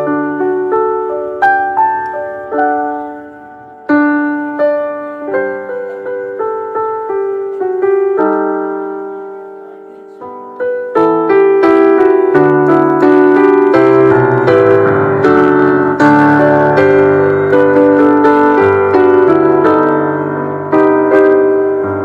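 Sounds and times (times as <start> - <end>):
piano melody: 0.0 - 22.0.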